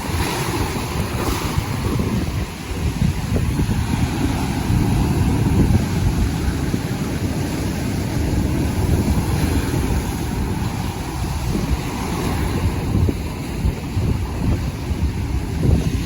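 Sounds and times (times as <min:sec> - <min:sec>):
low rumble of waves: 0:00.0 - 0:16.0
wind buffeting microphone: 0:00.0 - 0:16.0.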